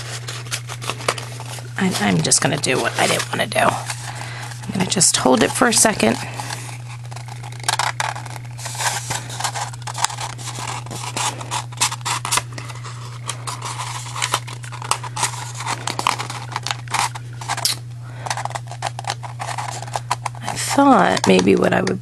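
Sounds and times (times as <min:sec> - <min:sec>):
paper rustling and crinkling: 0:00.0 - 0:22.0
steady low hum: 0:00.0 - 0:22.0.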